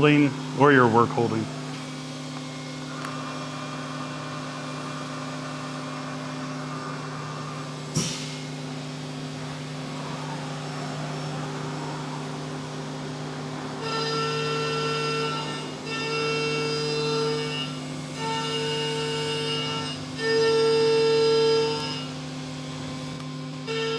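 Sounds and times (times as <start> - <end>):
cnc mill humming: 0.0 - 23.9.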